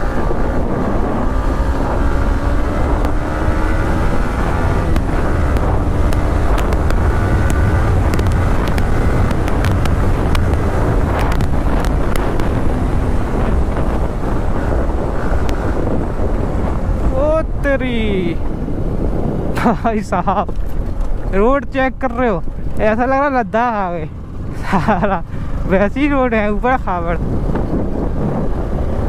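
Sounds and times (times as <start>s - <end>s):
motorcycle engine at speed: 0.0s - 29.0s
wind buffeting microphone: 0.0s - 29.0s.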